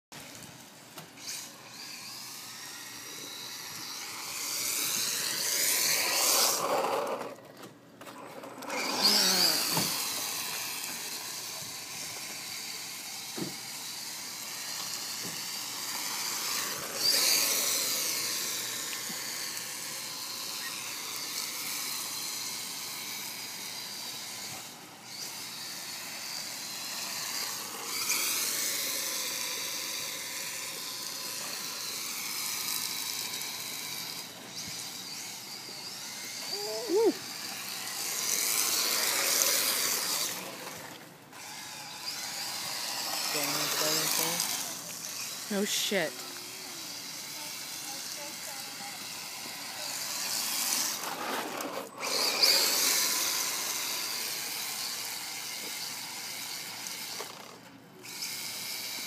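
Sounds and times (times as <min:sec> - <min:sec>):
toy car electric motor whining: 0:01.0 - 0:59.0.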